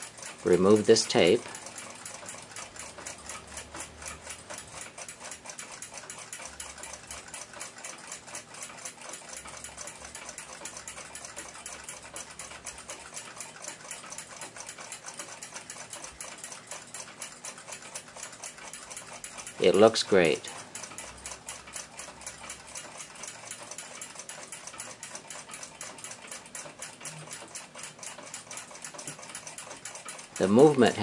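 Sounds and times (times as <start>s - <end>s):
mechanical clock ticking: 0.0s - 31.0s.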